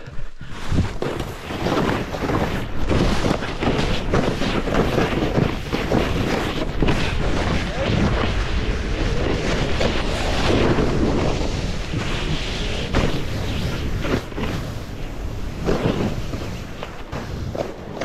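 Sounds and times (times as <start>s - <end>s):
wind buffeting microphone: 0.0s - 17.9s
snowboard carving through snow: 0.0s - 18.0s
snowboard scraping: 0.0s - 18.0s.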